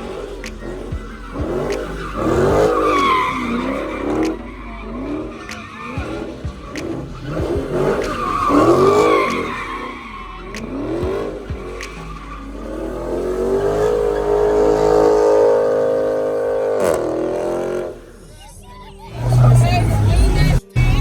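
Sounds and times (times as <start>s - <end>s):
car engine revving hard: 0.0s - 21.0s
tyres squealing and skidding: 0.0s - 21.0s.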